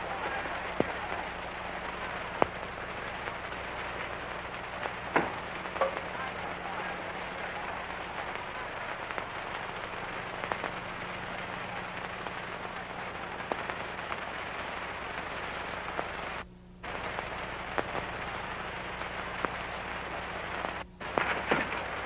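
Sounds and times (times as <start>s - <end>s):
film soundtrack hiss and crackles: 0.0s - 22.0s
low mains hum: 0.0s - 22.0s.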